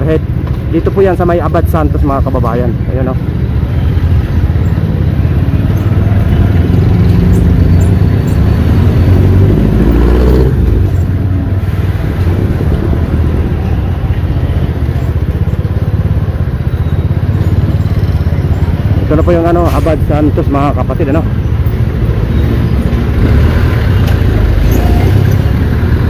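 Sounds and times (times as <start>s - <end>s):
street traffic: 0.0s - 26.0s
vehicle engine running: 0.0s - 26.0s.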